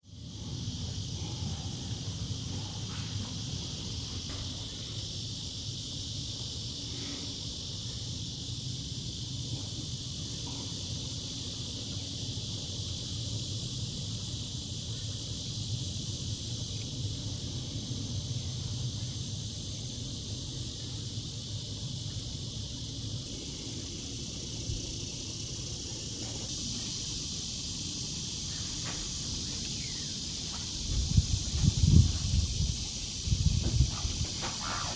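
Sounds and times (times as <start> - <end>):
high hiss: 0.0 - 34.9.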